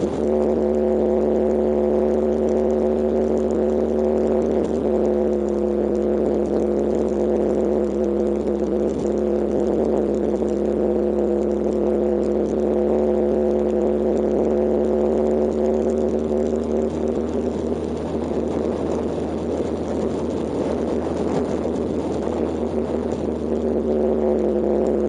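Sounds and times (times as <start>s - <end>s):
motorcycle engine running steadily: 0.0s - 25.0s.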